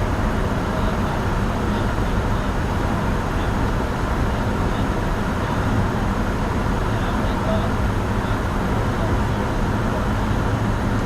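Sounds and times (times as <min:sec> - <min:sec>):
jet cockpit airflow and engine drone: 0:00.0 - 0:11.0.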